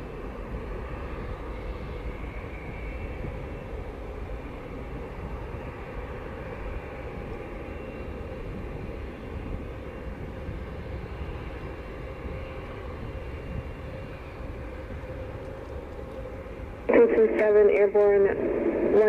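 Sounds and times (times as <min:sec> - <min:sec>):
faint engine whine: 0:00.0 - 0:19.0
jet engine rumble: 0:00.0 - 0:19.0.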